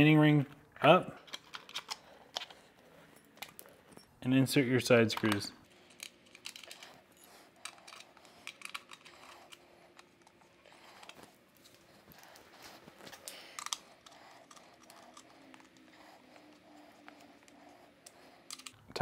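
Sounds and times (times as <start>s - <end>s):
small metal clicks and scrapes: 1.2s - 4.1s, 5.1s - 18.8s.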